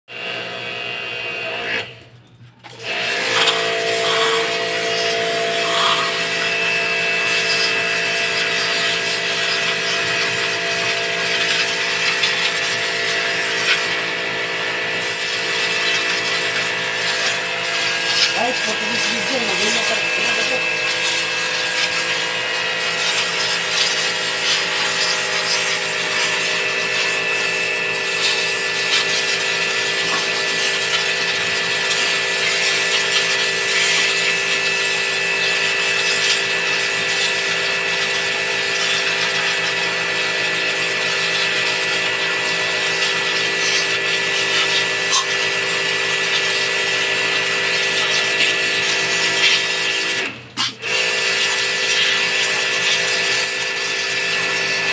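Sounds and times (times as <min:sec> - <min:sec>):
pressure washer motor humming: 0:00.1 - 0:02.0, 0:02.6 - 0:54.9
water jet hissing: 0:02.9 - 0:54.9.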